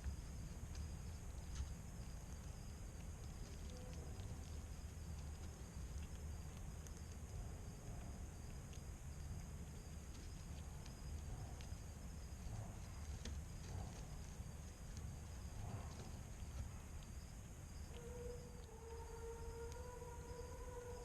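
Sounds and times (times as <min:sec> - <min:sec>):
faint clicks and taps: 0:00.0 - 0:19.0
high-pitched insect trill: 0:00.0 - 0:21.0.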